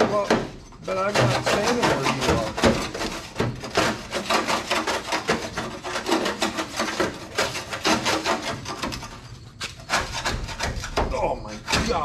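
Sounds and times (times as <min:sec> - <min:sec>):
putty knife scraping metal: 0:00.0 - 0:12.0.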